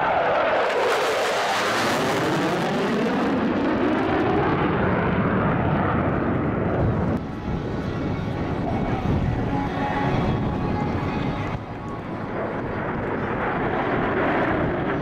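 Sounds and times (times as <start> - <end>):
fighter jets passing overhead: 0.0 - 15.0.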